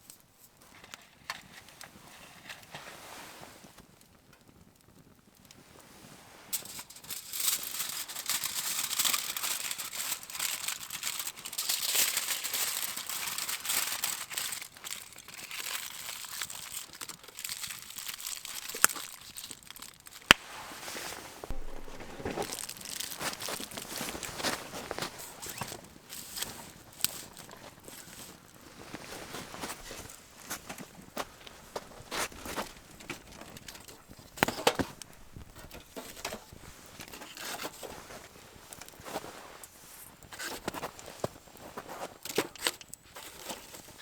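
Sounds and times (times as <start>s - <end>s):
crinkling packaging: 6.5s - 44.0s.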